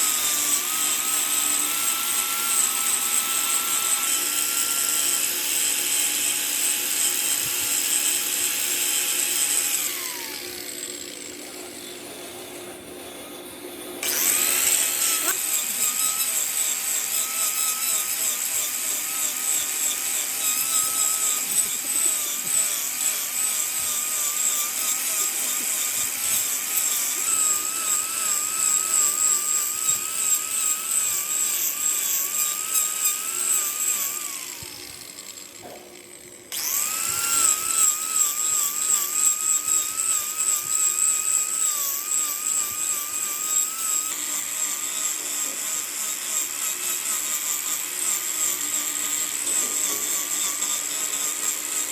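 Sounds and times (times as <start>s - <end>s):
power tool motor whining: 0.0s - 51.9s.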